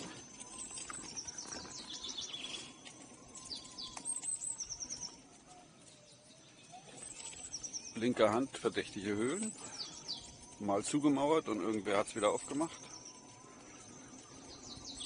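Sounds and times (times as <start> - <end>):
bird trills: 0.0 - 15.0
songbirds chirping: 0.0 - 15.0.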